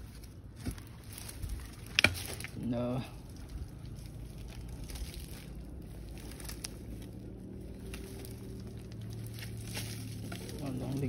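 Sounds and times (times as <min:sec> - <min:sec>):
hands scraping soil and gravel: 0:00.0 - 0:11.0
steady low hum: 0:00.0 - 0:11.0.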